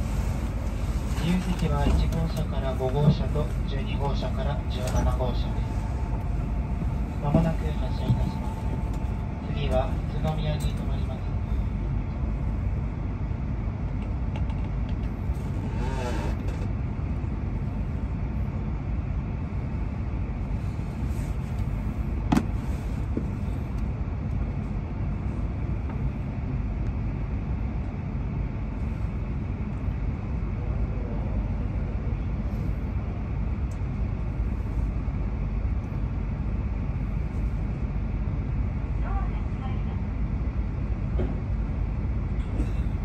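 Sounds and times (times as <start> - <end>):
train rumbling in motion: 0.0 - 43.0.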